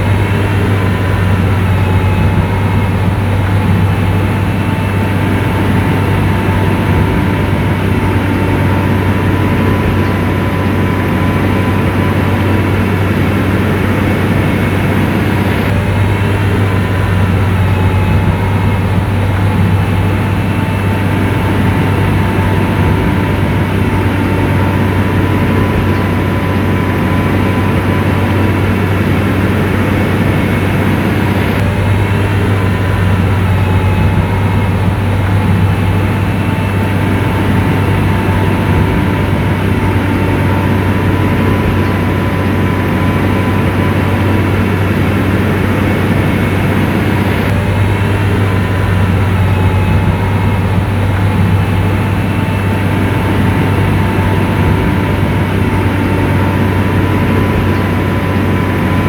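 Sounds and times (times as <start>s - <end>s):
diesel engine droning: 0.0s - 59.0s
faint whine: 0.0s - 59.0s.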